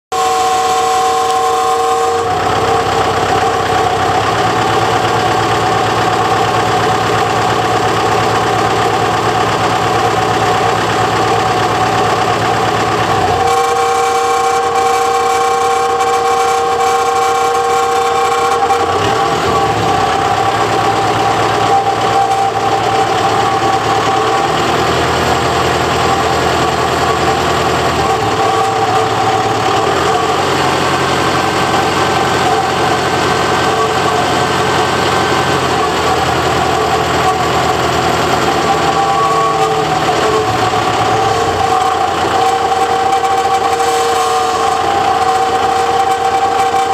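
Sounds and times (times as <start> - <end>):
metallic squeal: 0.1 - 46.9
tractor engine running: 0.1 - 46.9.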